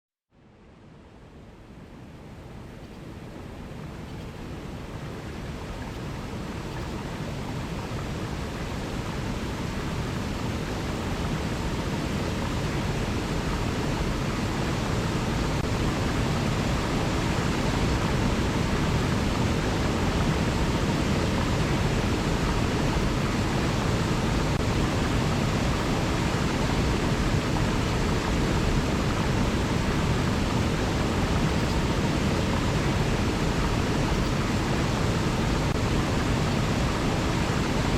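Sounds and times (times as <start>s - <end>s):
river water rushing: 2.2s - 37.9s.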